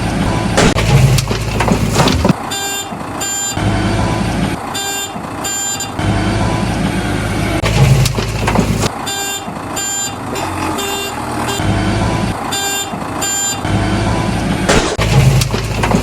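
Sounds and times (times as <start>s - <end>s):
backhoe engine rumbling: 0.0s - 16.0s.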